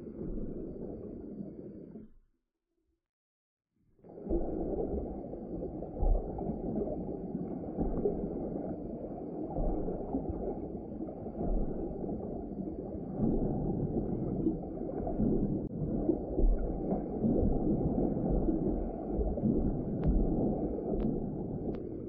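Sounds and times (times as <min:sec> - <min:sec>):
underwater rush of water: 0:00.0 - 0:02.0, 0:04.0 - 0:22.0.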